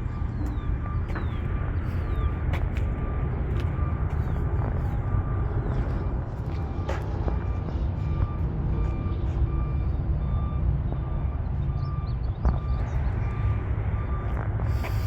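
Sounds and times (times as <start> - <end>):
backup alarm beeping: 0.0 - 15.0
diesel engine running: 0.0 - 15.0.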